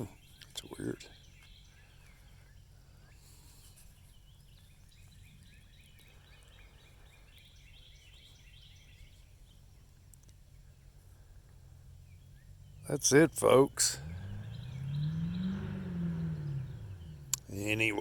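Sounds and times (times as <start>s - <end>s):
faint bird chirps: 0.0s - 18.0s
low steady rumble: 0.0s - 18.0s.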